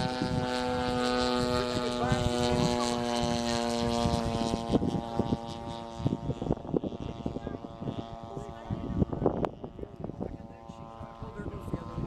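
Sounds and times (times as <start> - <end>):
propeller aircraft engine: 0.0 - 12.0.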